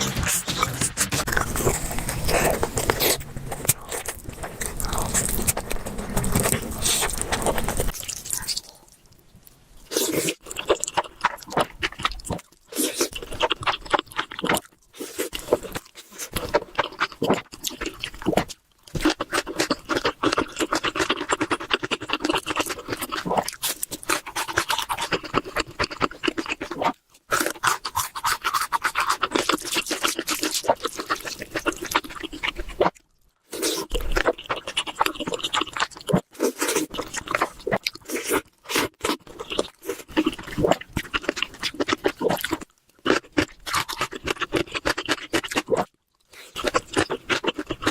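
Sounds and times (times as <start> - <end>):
wet chewing and crunching: 0.0 - 47.9.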